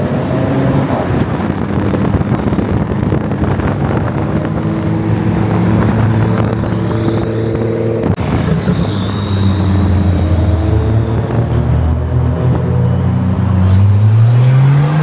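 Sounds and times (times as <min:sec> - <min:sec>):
car engine running: 0:00.0 - 0:15.0
engine with faint high whine: 0:00.0 - 0:15.0.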